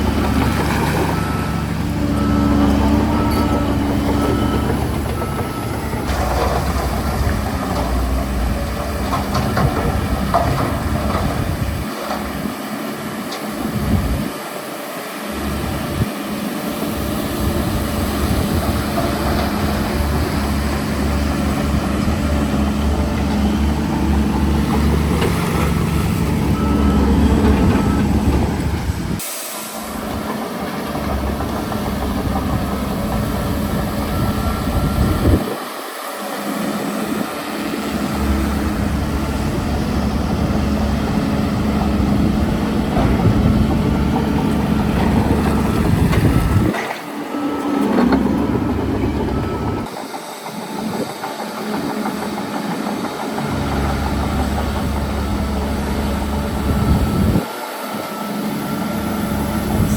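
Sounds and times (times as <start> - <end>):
heavy diesel engines rumbling: 0.0 - 59.9.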